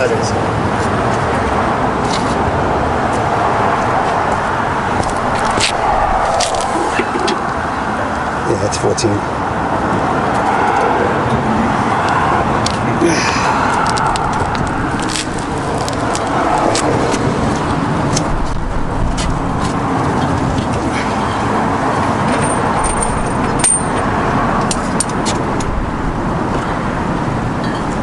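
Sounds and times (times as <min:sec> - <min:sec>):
loud background rumble: 0:00.0 - 0:28.0.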